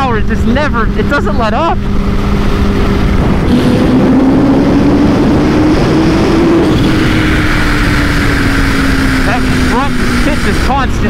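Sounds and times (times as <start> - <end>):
heavy wind rush: 0.0 - 11.0
motorcycle engine accelerating: 0.0 - 11.0.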